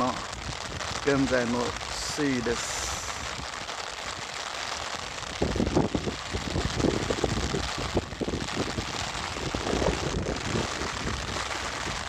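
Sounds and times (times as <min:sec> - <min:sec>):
steady hiss: 0:00.0 - 0:12.0
wind buffeting microphone: 0:00.0 - 0:12.0.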